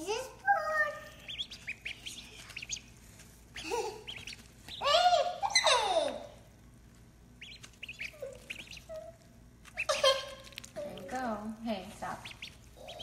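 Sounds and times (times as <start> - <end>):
ducklings peeping: 0.4 - 6.5, 7.3 - 13.0.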